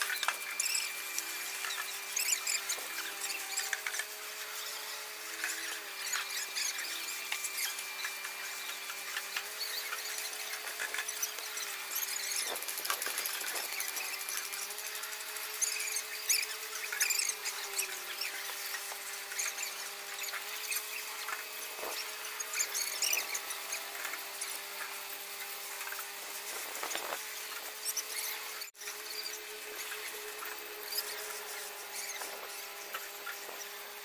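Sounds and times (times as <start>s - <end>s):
high squeaks: 0.0s - 34.0s.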